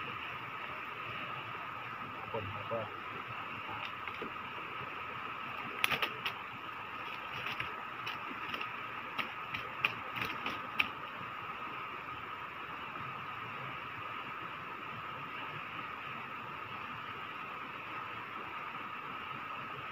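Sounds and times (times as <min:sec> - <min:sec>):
steady outdoor hiss: 0:00.0 - 0:19.9.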